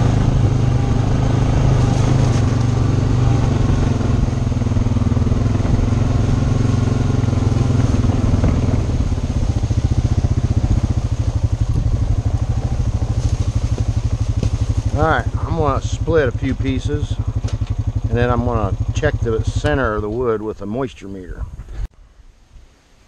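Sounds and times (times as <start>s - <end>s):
atv engine running and idling: 0.0s - 21.9s.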